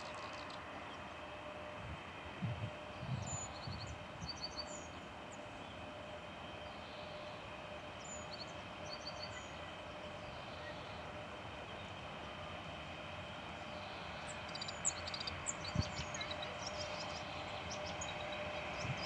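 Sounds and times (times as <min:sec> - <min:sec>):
distant freight train rumble: 0:00.0 - 0:19.0
faint hum: 0:00.0 - 0:19.0.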